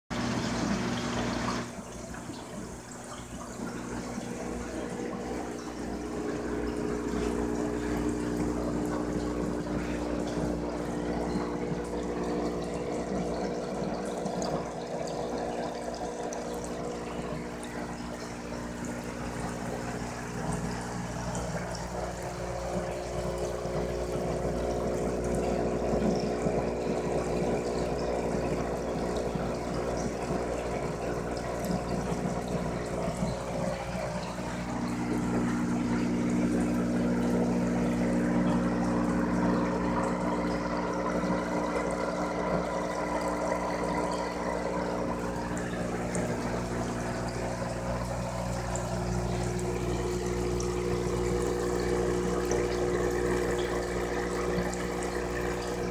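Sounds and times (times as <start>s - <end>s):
aquarium pump humming: 0.1s - 55.9s
water bubbling and running: 0.1s - 55.9s.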